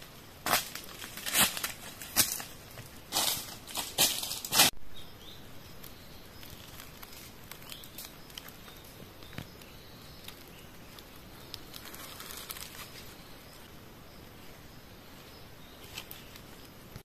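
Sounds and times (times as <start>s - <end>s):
faint forest ambience: 0.0s - 17.0s.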